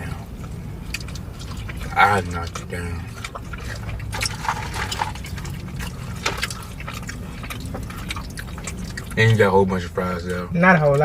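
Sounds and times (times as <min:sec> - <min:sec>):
chewing and smacking: 0:00.0 - 0:11.0.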